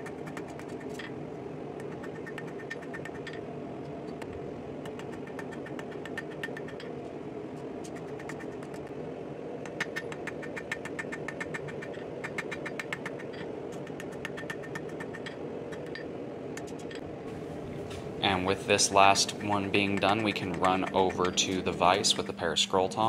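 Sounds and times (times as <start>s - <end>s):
mechanical drone: 0.0s - 23.0s.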